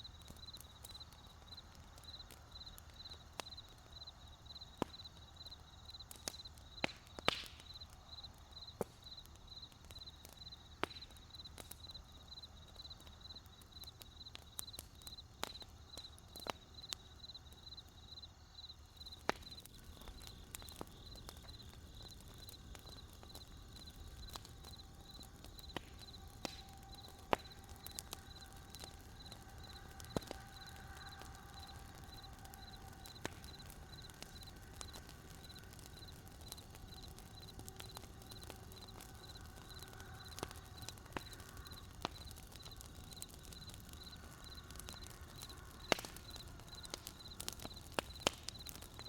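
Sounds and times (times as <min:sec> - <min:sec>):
crickets chirping: 0:00.0 - 0:06.8, 0:07.6 - 0:49.0
campfire crackling and popping: 0:00.0 - 0:49.0
low rumble of flames: 0:00.0 - 0:49.0.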